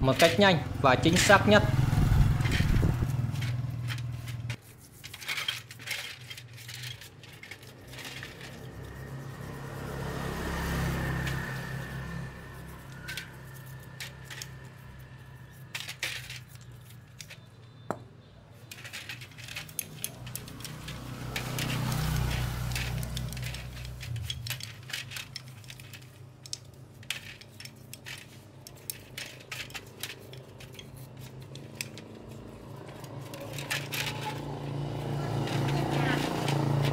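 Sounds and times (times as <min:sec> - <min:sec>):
metal parts clinking in tray: 0:00.0 - 0:18.0, 0:18.6 - 0:36.9
toothbrush scrubbing: 0:03.1 - 0:17.2, 0:19.5 - 0:36.9.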